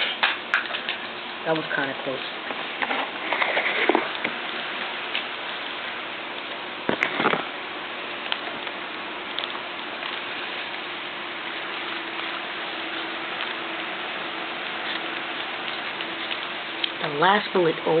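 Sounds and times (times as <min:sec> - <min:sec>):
steady rain-like hiss: 0:00.0 - 0:18.0.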